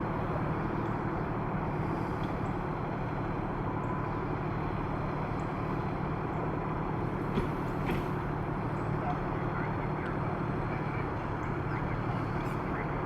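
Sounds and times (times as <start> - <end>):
large vehicle engine rumbling: 0.0 - 13.0.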